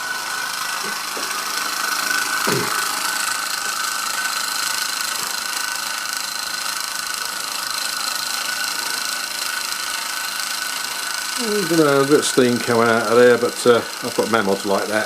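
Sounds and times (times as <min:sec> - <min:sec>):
toy steam engine whirring hiss: 0:00.0 - 0:15.0.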